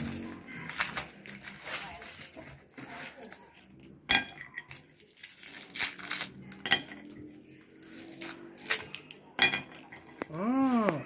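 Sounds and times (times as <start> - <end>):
candy wrappers crinkling: 0.0 - 11.0.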